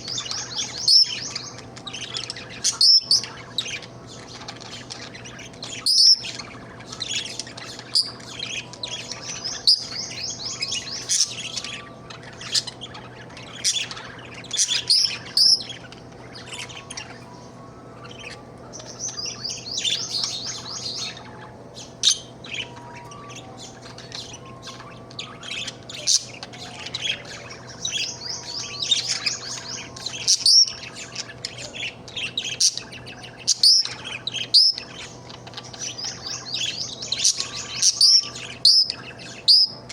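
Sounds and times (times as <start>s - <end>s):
budgerigar chirping and warbling: 0.0s - 17.4s, 18.0s - 39.9s
faint steady hum: 0.0s - 39.9s.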